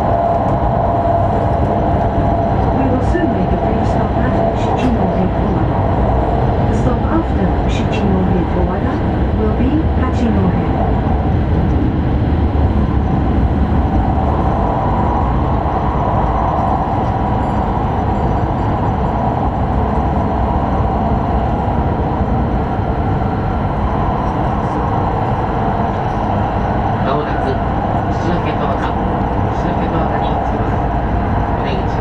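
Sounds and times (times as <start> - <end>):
train running noise in cabin: 0.0 - 32.0.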